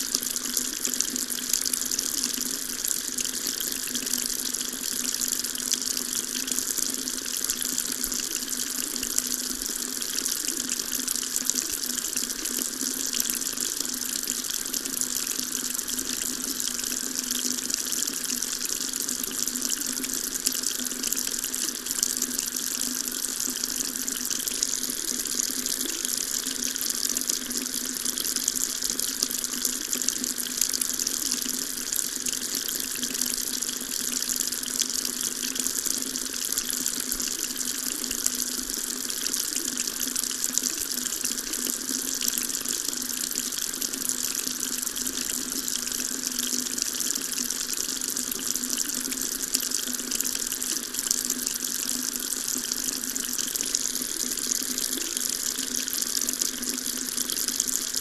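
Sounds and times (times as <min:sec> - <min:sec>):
water tap running: 0:00.0 - 0:58.0.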